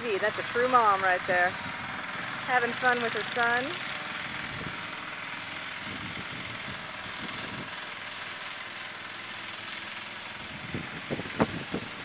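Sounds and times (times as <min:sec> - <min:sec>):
small engines running: 0:00.0 - 0:12.0.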